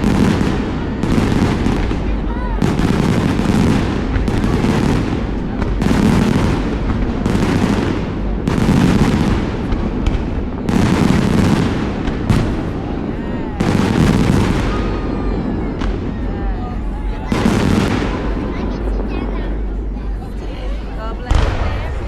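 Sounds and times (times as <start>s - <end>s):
fireworks booming: 0.0s - 19.3s, 21.3s - 22.0s
low rumble of bursts: 0.0s - 22.0s.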